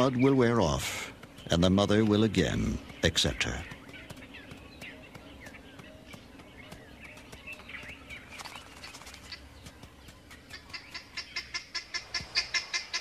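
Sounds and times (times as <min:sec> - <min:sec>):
fast series of high bird calls: 0:00.0 - 0:13.0
wild birds chirping: 0:00.0 - 0:13.0.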